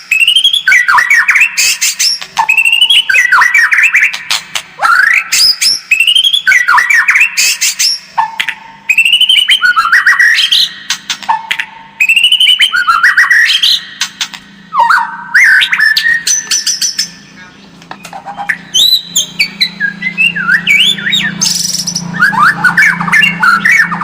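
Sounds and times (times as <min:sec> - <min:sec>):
bird singing whistled phrases: 0:00.0 - 0:14.0, 0:14.7 - 0:17.4, 0:18.0 - 0:24.0.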